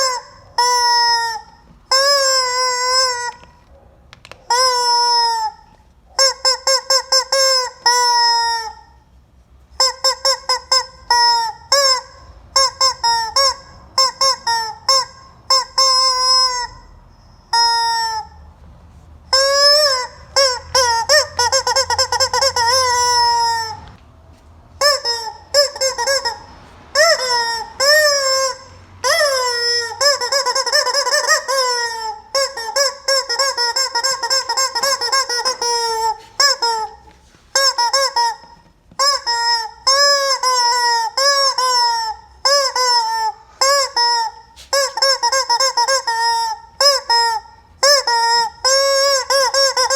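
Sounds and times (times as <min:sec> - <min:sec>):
rubber chicken toy squawking: 0:00.0 - 0:09.1, 0:09.7 - 0:18.5, 0:19.3 - 0:24.0, 0:24.8 - 0:49.9.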